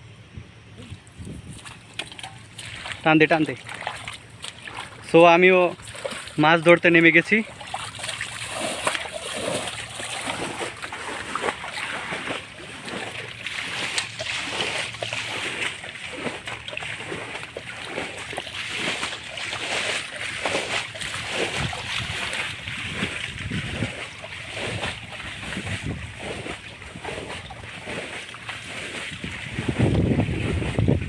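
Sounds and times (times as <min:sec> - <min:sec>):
water splashing from wading: 0:00.8 - 0:31.0.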